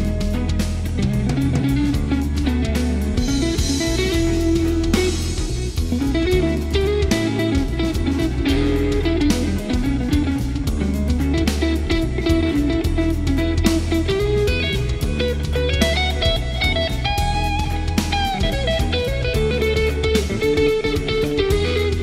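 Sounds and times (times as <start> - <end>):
bass guitar: 0.0 - 22.0
drums: 0.0 - 22.0
electric guitar melody: 0.0 - 22.0.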